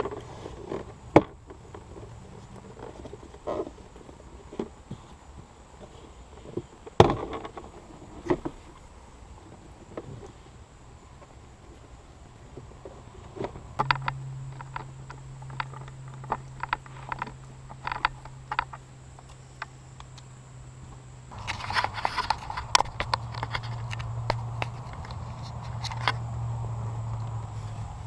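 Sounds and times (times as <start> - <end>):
rustling: 0.0 - 10.6, 11.2 - 28.0
steady low hum: 0.0 - 28.0.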